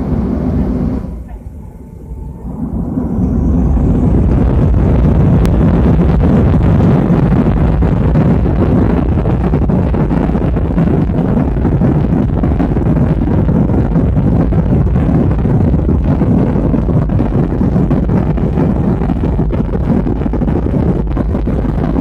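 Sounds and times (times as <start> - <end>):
jet engines at takeoff: 0.0 - 22.0.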